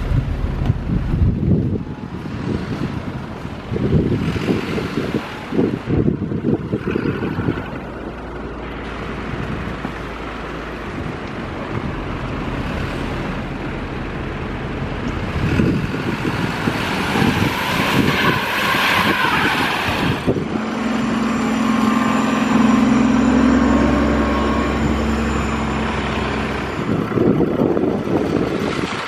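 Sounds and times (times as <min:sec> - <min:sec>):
large vehicle engine humming: 0:00.0 - 0:29.0
vehicle passing: 0:02.2 - 0:29.0.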